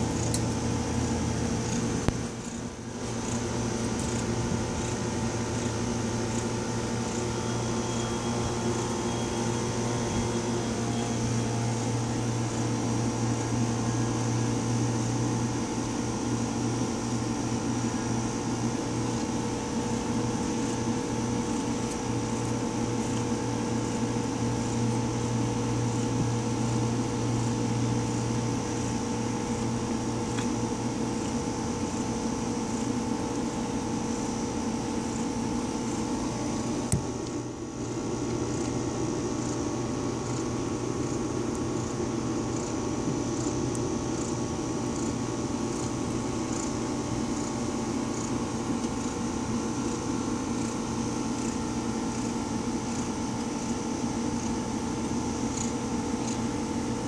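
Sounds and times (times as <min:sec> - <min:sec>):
fan motor humming: 0:00.0 - 0:57.0.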